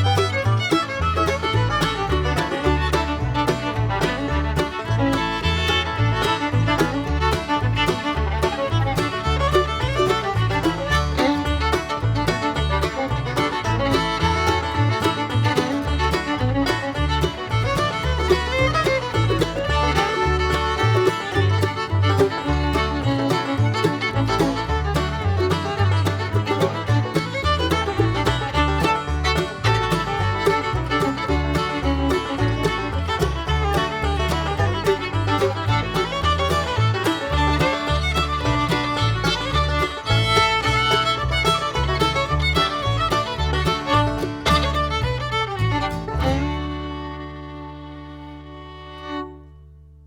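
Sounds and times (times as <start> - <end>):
banjo: 0.0 - 49.6
fast string-band music: 0.0 - 50.0
fiddle: 0.0 - 50.0
walking bass line: 0.0 - 50.0.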